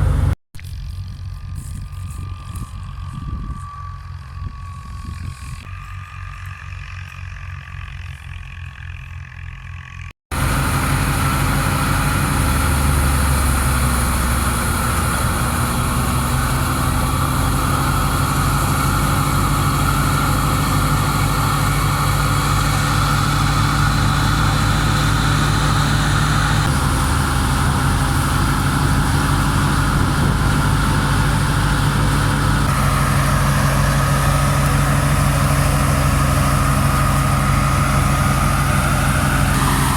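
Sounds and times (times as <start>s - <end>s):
wheat thresher running: 0.0s - 3.6s, 10.3s - 39.9s
tractor engine running: 0.0s - 39.9s.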